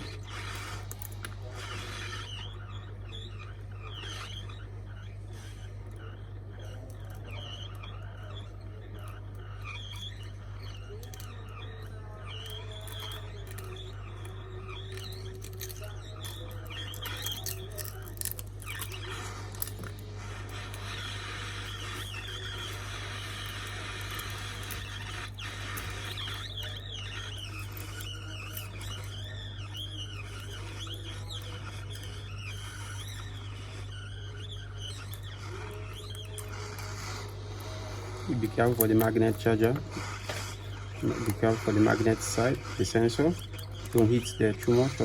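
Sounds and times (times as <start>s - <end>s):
electric hum of glass removal pen: 0.0s - 45.0s
glass scraping and squeaking: 0.0s - 45.0s.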